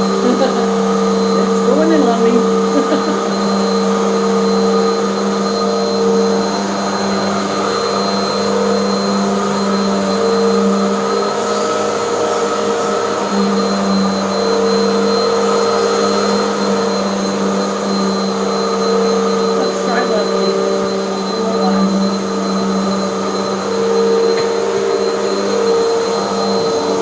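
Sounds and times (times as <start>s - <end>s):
vacuum cleaner running on carpet: 0.0s - 27.0s.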